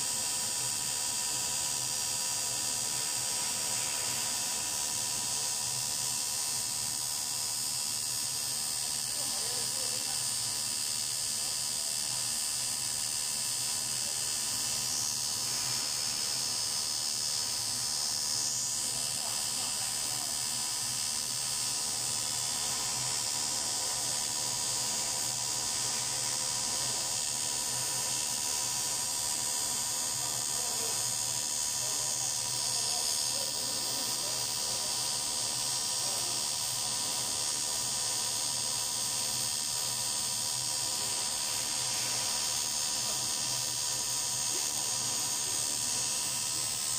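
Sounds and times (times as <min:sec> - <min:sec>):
welding arc buzzing: 0:00.0 - 0:46.9.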